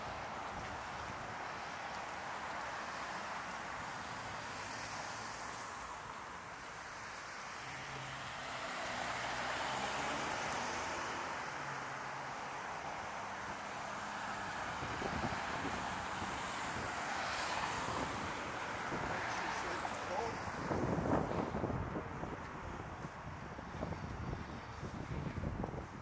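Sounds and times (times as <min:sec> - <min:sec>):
passing vehicles: 0:00.0 - 0:26.0.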